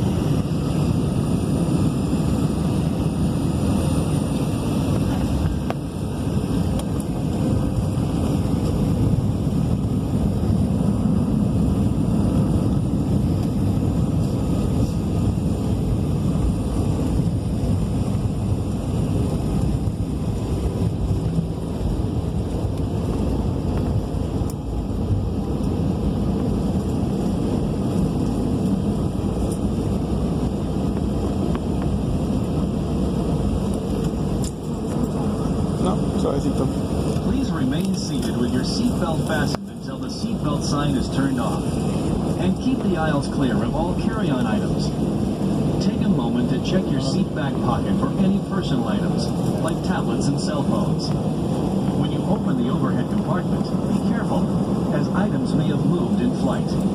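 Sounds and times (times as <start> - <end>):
jet engine noise: 0.0 - 56.9.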